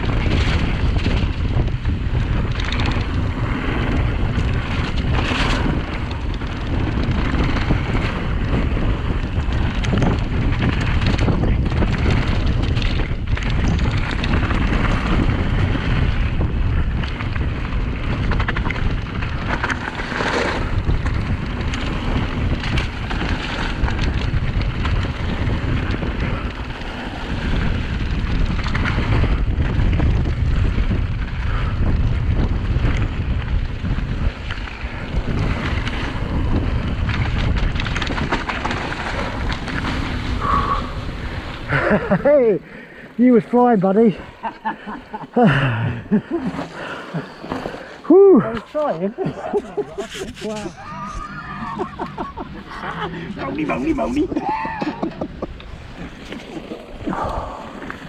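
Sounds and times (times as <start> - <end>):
bike rattling: 0.0 - 58.0
tyres rumbling on loose stones: 0.0 - 58.0
wind buffeting microphone: 0.0 - 58.0.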